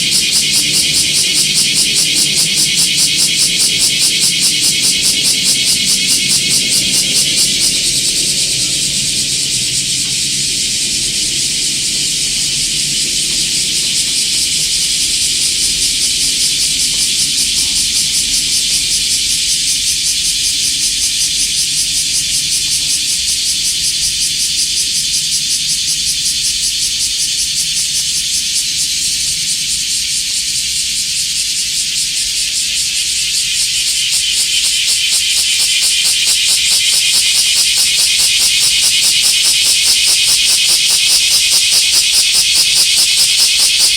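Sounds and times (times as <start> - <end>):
cicada buzzing: 0.0 - 43.9.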